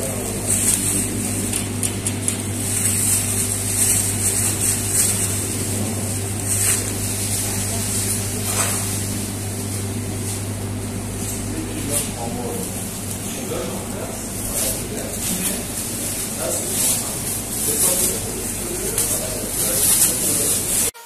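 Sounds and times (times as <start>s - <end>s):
plastic bag rustling: 0.0s - 20.9s
low machine hum: 0.0s - 21.0s.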